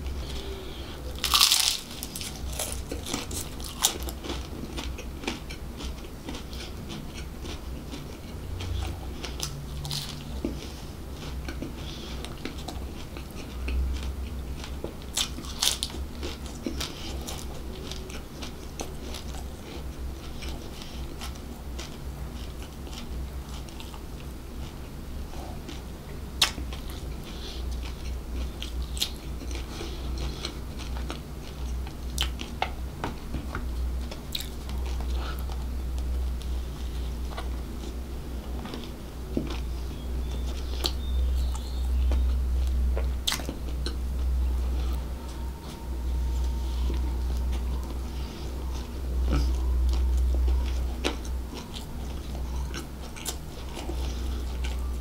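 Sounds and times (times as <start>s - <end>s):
chewing soft bread: 0.0s - 55.0s
steady low hum: 0.0s - 55.0s.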